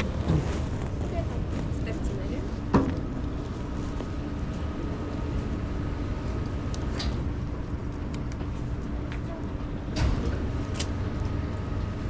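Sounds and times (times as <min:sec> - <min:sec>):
airport terminal hum: 0:00.0 - 0:12.0.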